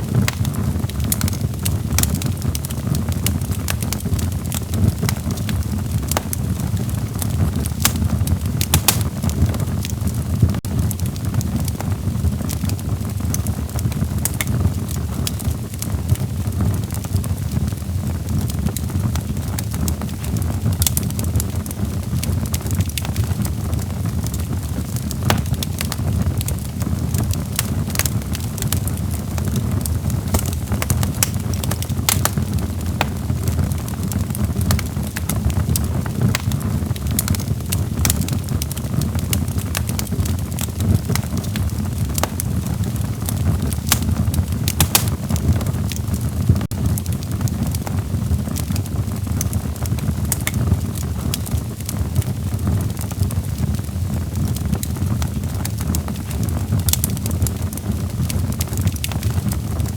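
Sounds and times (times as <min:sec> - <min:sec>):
burning logs crackling and popping: 0:00.0 - 0:59.9
low rumble of flames: 0:00.0 - 0:59.9.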